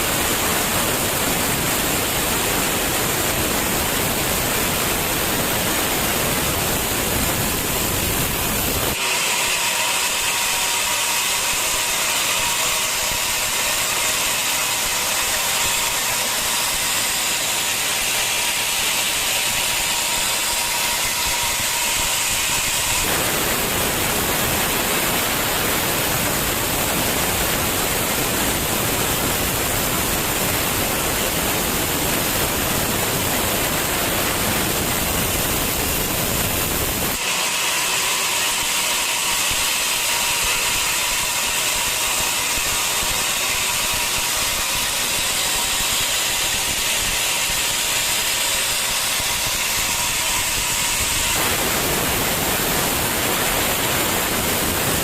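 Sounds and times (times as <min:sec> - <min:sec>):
sawmill machinery hissing: 0:00.0 - 0:55.0
steady machine whine: 0:00.0 - 0:55.0.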